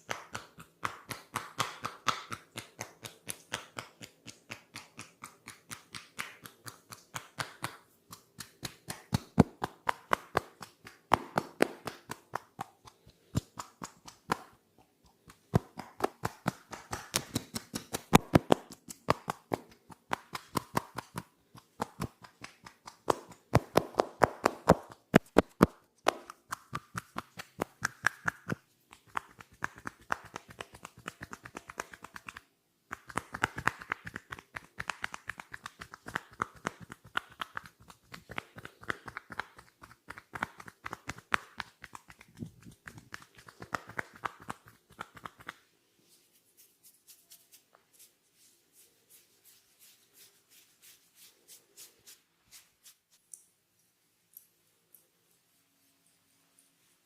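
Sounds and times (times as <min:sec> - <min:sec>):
hands tapping and slapping head: 0:00.0 - 0:45.7.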